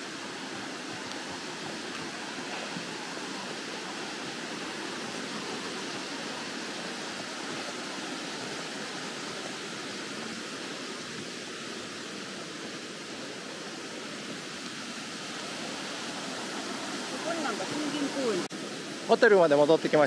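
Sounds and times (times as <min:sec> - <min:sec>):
river flowing: 0:00.0 - 0:20.0.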